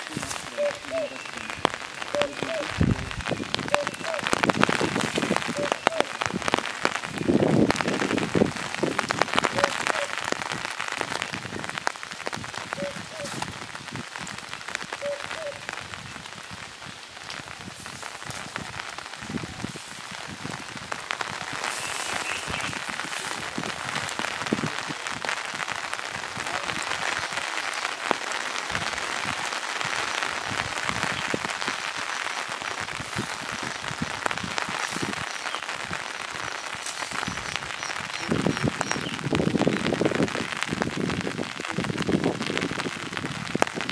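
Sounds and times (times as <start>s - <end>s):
light rain falling: 0.0s - 43.9s.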